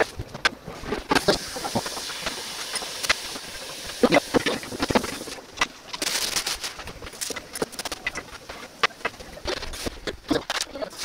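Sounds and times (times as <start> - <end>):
steady hiss: 0.7 - 11.0.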